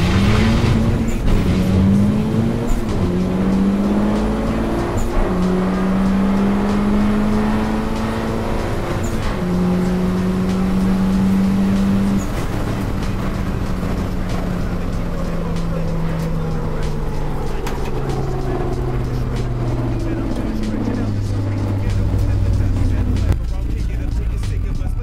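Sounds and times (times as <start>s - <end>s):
car engine at full throttle: 0.0s - 25.0s.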